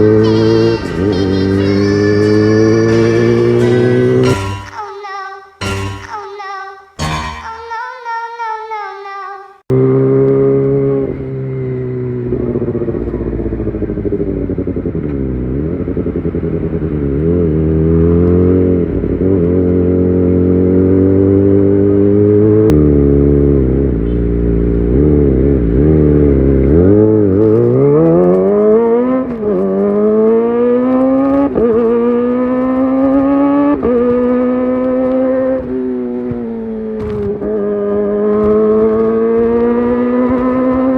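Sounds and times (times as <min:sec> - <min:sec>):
motorcycle engine revving: 0:00.0 - 0:04.5, 0:09.7 - 0:40.9.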